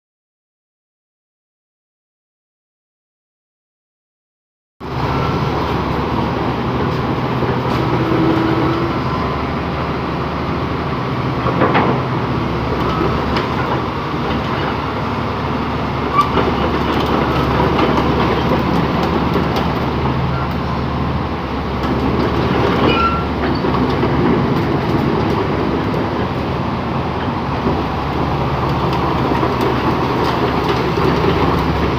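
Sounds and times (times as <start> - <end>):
bulldozer diesel engine running: 4.8 - 31.9.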